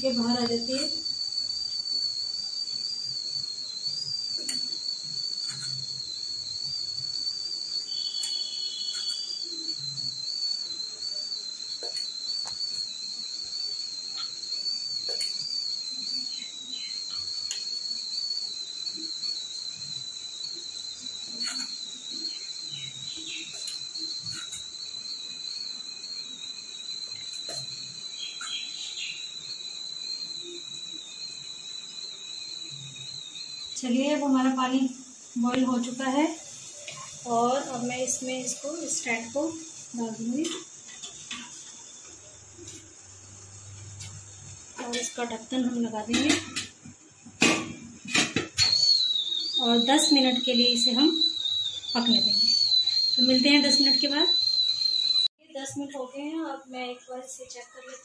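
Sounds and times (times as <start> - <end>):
steady high whistle: 0.0 - 58.0.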